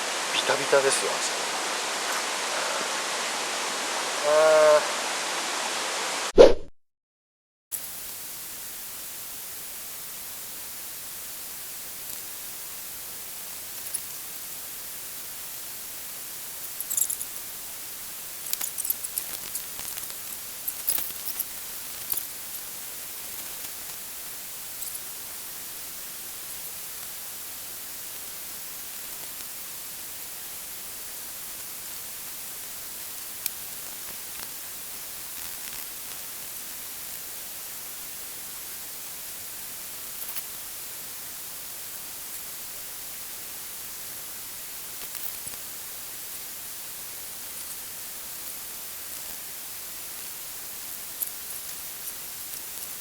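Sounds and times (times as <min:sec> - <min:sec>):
steady high hiss: 0:00.0 - 0:06.3, 0:07.7 - 0:53.0.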